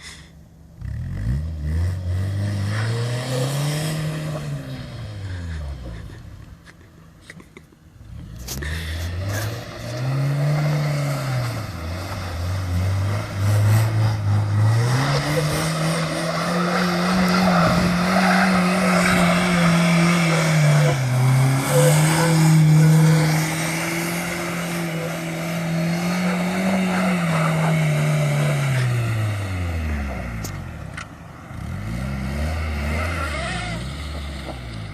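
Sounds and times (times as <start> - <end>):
car engine revving: 0.6 - 6.4, 8.0 - 34.9
tyres churning through snow: 0.8 - 6.9, 8.0 - 34.9.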